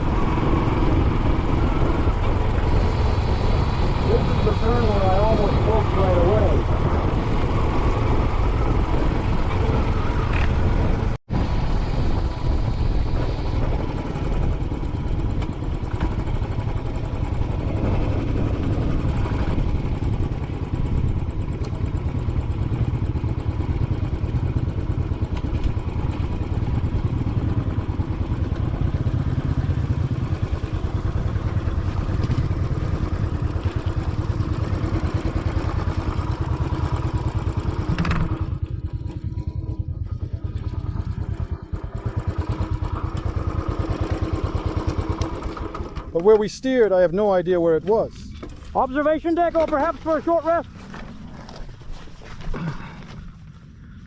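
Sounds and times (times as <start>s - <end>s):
motorcycle engine running: 0.0s - 46.3s, 46.9s - 54.0s.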